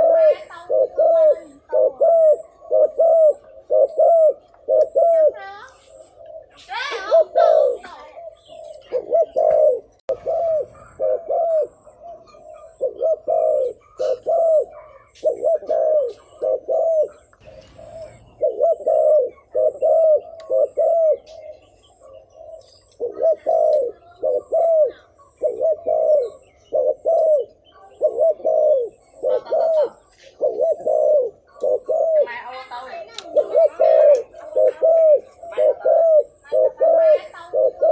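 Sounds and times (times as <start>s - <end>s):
dove cooing: 0.0s - 37.9s.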